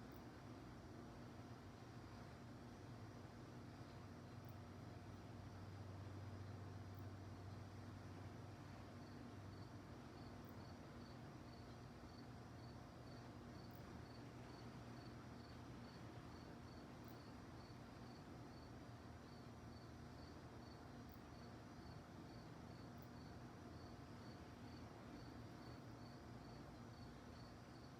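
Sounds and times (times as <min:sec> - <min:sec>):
crickets chirping: 0:00.0 - 0:27.9
low steady hum: 0:00.0 - 0:27.9.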